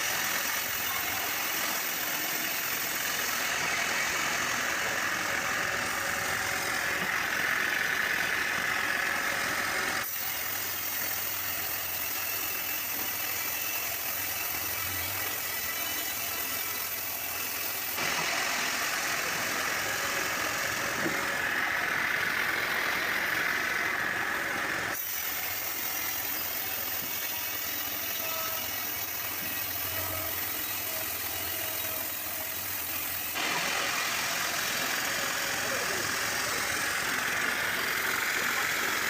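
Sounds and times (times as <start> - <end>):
sawmill machinery droning: 0.0 - 39.0.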